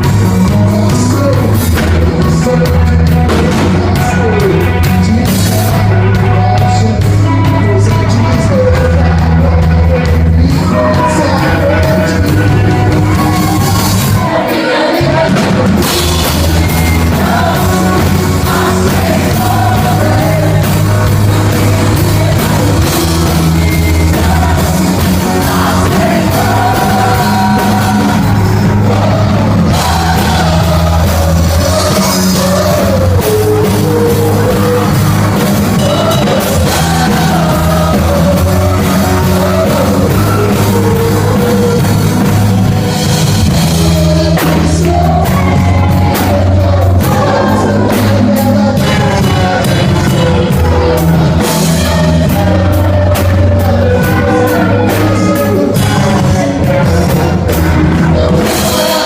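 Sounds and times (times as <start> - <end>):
drum kit: 0.0 - 59.0
person singing: 0.0 - 59.0
rock band playing: 0.0 - 59.0.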